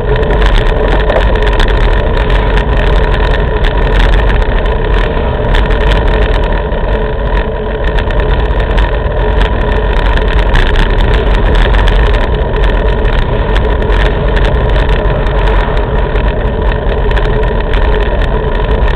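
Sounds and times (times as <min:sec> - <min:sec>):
road noise: 0:00.0 - 0:18.9
wind rush on microphone: 0:00.0 - 0:18.9.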